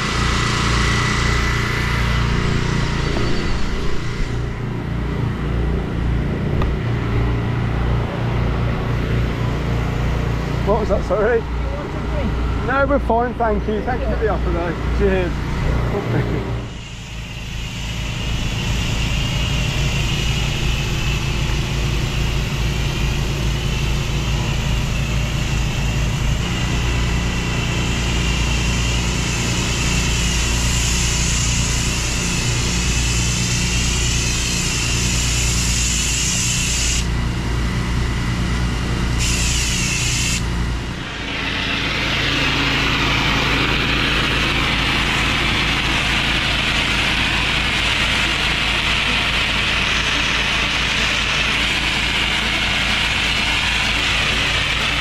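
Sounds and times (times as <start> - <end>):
pressure washer engine running: 0.0 - 55.0
high-pressure water jet hissing: 6.8 - 55.0.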